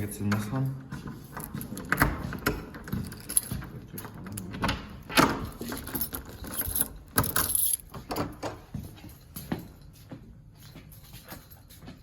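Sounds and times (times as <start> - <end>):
keys jangling: 0.1 - 12.0.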